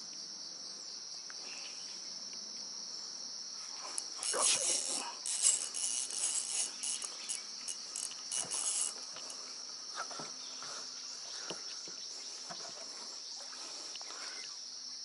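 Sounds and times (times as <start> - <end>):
insects chirring: 0.0 - 15.0
pulsing insect call: 0.0 - 15.0.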